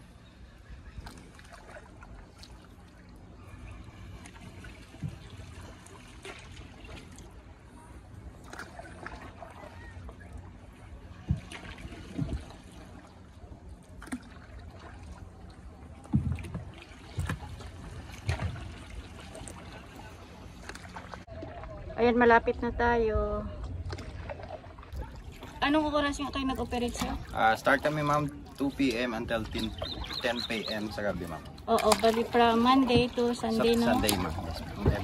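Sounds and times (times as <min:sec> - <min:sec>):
low steady rumble: 0:00.0 - 0:35.0
water trickling and lapping: 0:00.0 - 0:35.0.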